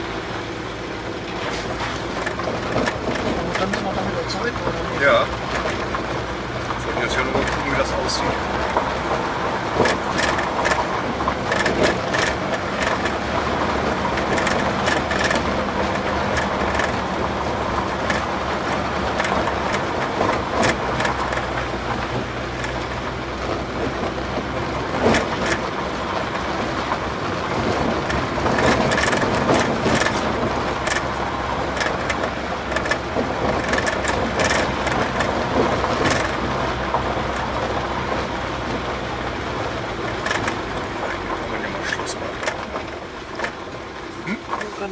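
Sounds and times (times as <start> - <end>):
engine hum: 0.0 - 44.9.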